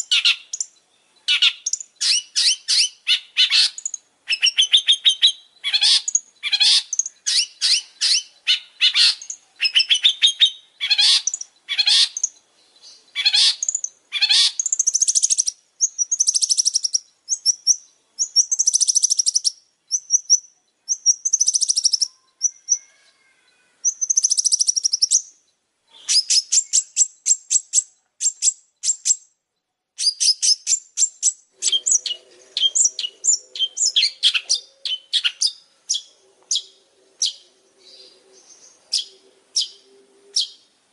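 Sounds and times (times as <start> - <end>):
shrike singing chattering song: 0.0 - 23.0, 23.8 - 29.4, 30.0 - 40.8.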